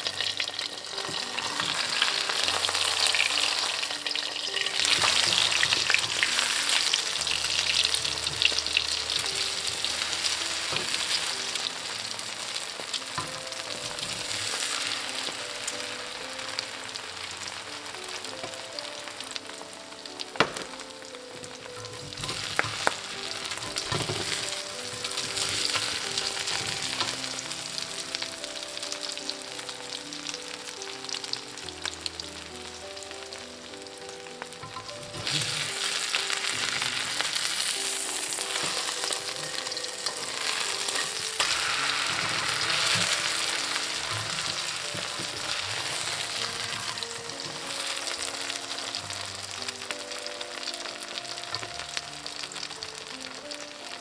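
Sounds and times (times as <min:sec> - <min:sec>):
oil sizzling and crackling: 0:00.0 - 0:54.0.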